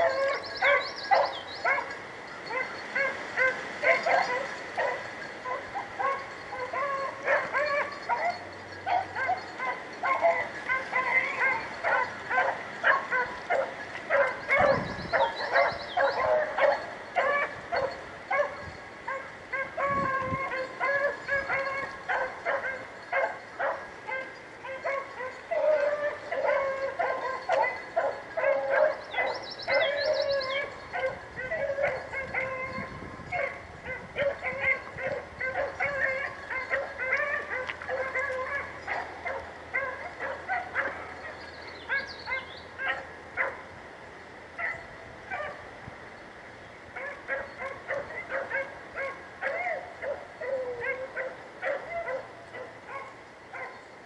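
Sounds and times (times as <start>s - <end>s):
hounds baying: 0.0s - 43.7s, 46.9s - 53.9s.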